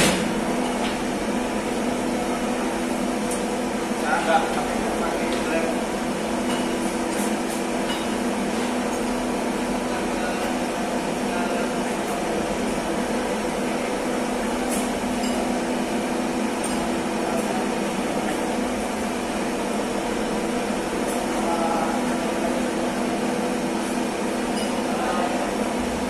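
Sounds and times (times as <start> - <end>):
engine-room machinery droning: 0.0 - 26.0.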